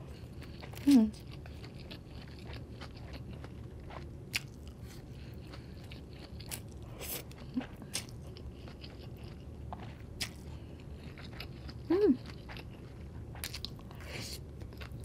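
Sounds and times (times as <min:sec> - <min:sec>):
person chewing and slurping noodles: 0:00.0 - 0:15.0.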